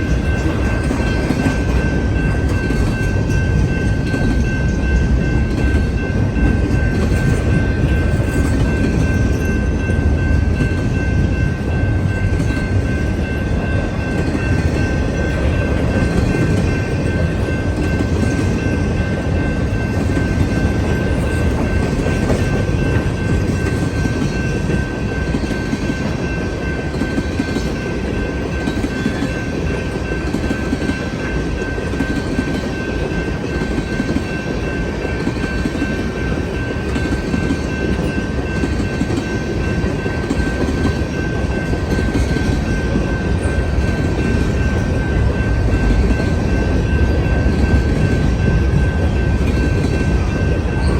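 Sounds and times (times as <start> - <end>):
freight train rumbling past: 0.0 - 50.9
high-pitched rail tone: 0.0 - 50.9.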